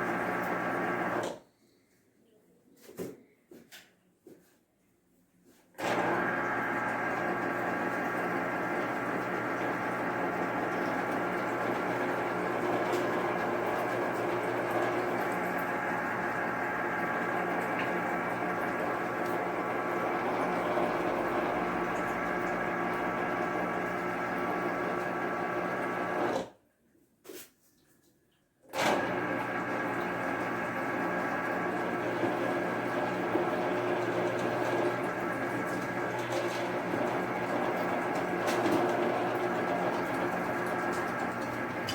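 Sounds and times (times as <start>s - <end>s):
citrus juicer motor running: 0.0s - 1.4s, 5.8s - 26.5s, 28.7s - 41.9s.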